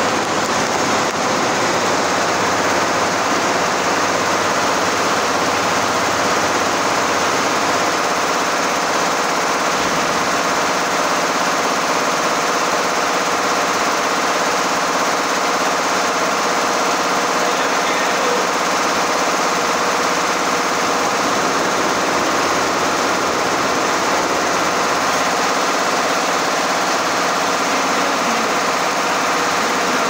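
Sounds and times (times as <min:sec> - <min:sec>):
embroidery machine clattering: 0:00.0 - 0:30.0.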